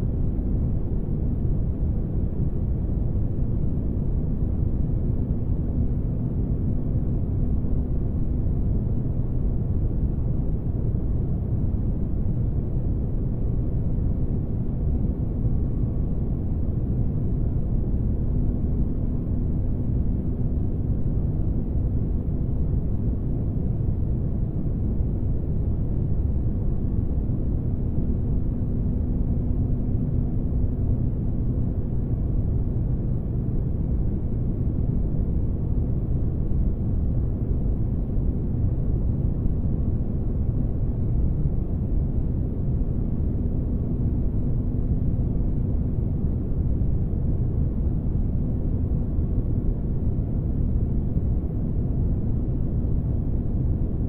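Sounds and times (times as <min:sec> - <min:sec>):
faint humming tone: 0:00.0 - 0:54.0.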